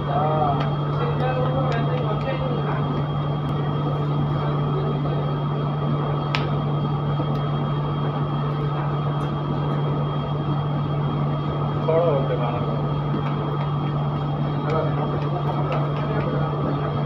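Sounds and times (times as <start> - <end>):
exhaust fan humming: 0.0 - 17.0.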